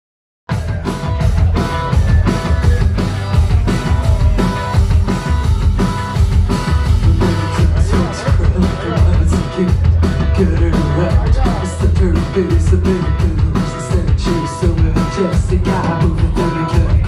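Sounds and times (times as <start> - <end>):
drum beat: 0.5 - 17.0
rock band playing live: 0.5 - 17.0.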